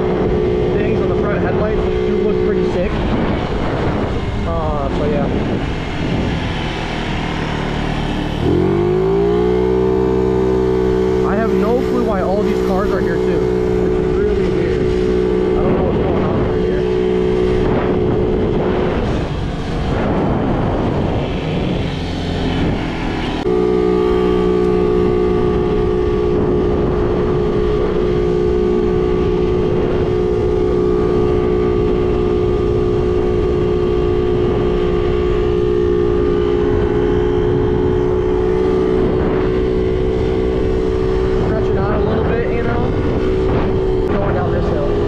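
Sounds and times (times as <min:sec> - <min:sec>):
moped engine droning: 0:00.0 - 0:45.0
wind noise on microphone: 0:00.0 - 0:45.0.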